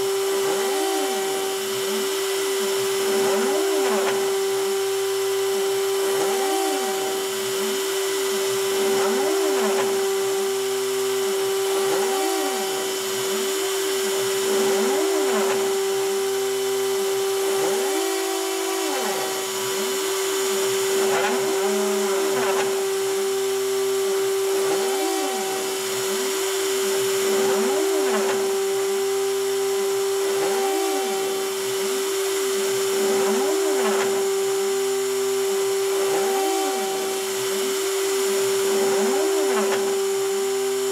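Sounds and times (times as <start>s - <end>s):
motors whining in rising pitch: 0.0s - 40.9s
spindle high whine: 0.0s - 40.9s.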